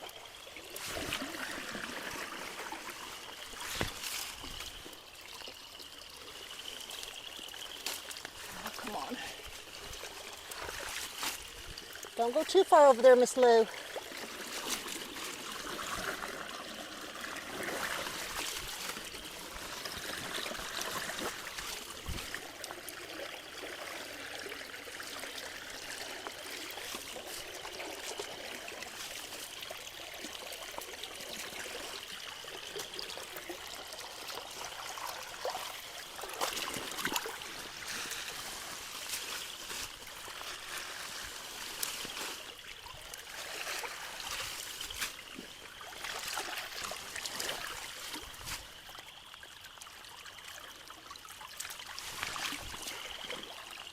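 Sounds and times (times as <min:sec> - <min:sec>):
creek water running: 0:00.0 - 0:53.9.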